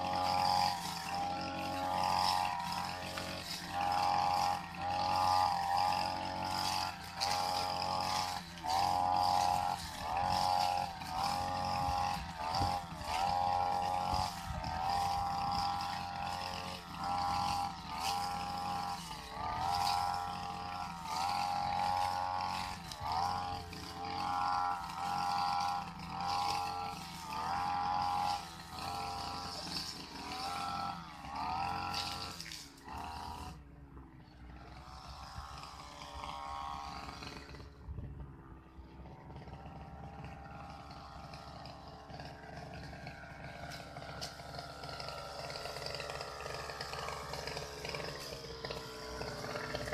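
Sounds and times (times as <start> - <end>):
brush cutter engine: 0.0 - 49.9.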